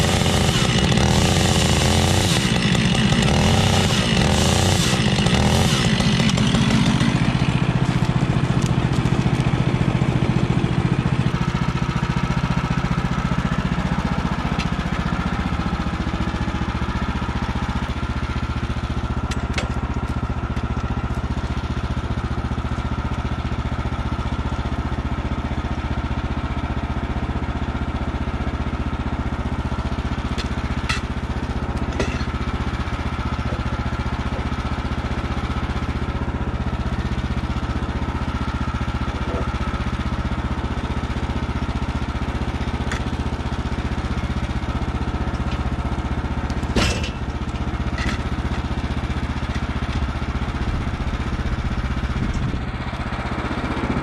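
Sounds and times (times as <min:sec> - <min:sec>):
bandsaw mill cutting log: 0:00.0 - 0:54.0.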